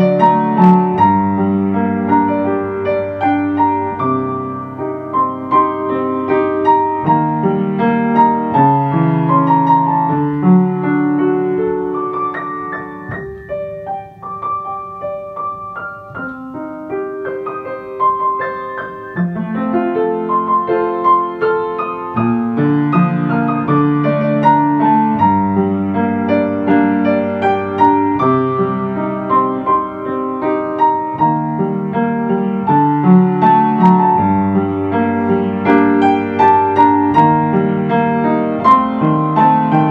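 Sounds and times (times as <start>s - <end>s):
slow ambient piano music: 0.0s - 39.9s.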